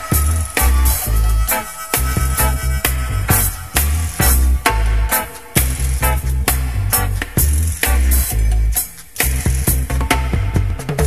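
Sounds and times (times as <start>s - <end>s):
deep bass line: 0.0s - 11.0s
drum and cymbal hits: 0.0s - 11.0s
reggae band playing: 0.0s - 11.0s.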